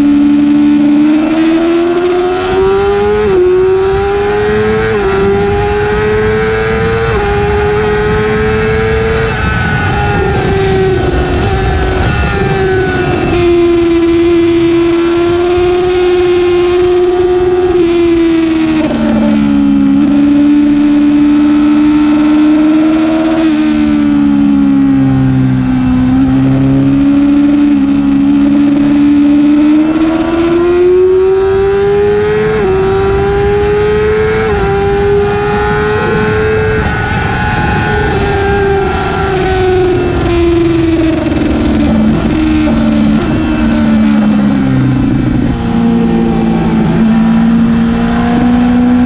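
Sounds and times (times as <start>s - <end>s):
motorcycle engine at high revs: 0.0s - 49.0s.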